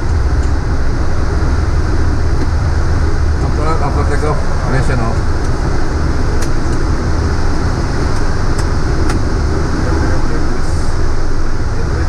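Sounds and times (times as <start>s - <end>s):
aircraft cockpit rumble and airflow: 0.0s - 12.0s.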